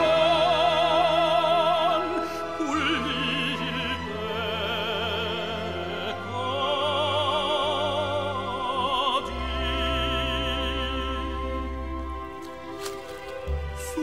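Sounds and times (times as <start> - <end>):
orchestral accompaniment: 0.0 - 14.0.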